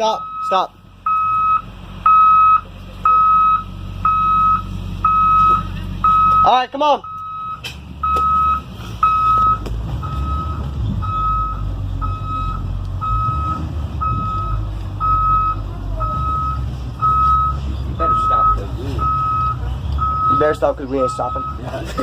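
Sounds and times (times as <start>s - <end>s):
bus backup alarm beeping: 0.0s - 22.0s
bus engine rumble: 0.0s - 22.0s.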